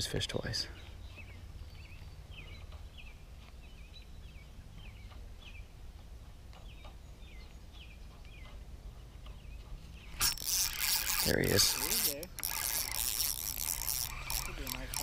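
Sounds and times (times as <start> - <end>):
bird chirping: 0.5 - 14.9.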